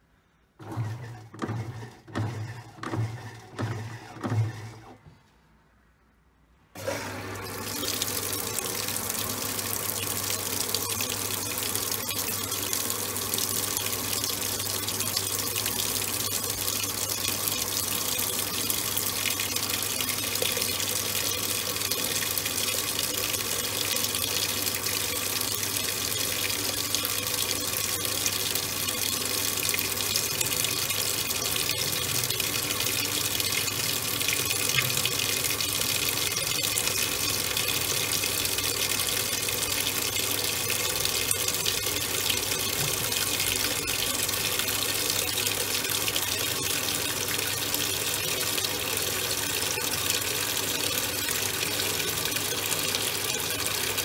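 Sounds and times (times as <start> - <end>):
water pouring into washer tub: 6.8 - 54.0.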